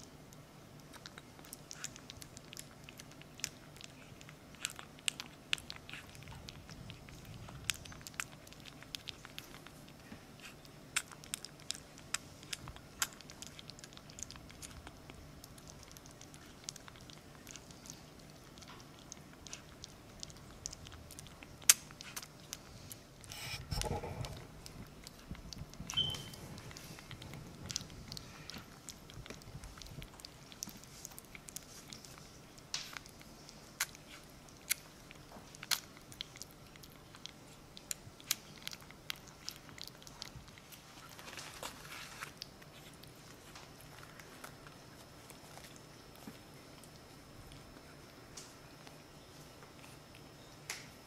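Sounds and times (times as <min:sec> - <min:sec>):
puppy eating wet smacks: 0:00.0 - 0:51.0.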